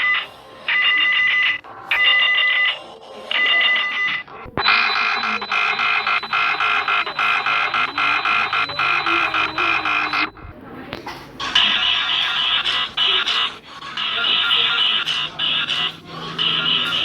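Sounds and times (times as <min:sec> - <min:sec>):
alarm beeps: 0:00.0 - 0:10.5, 0:11.5 - 0:17.0
rapidly pulsing alarm tone: 0:00.0 - 0:10.6, 0:11.4 - 0:17.0.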